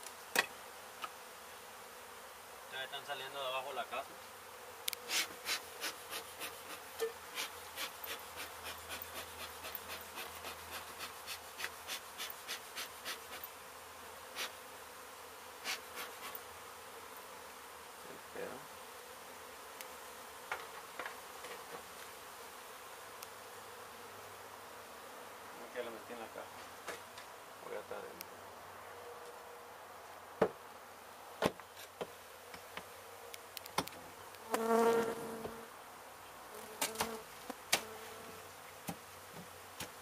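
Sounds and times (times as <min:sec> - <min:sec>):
bees buzzing: 0:00.0 - 0:27.6, 0:31.9 - 0:40.0.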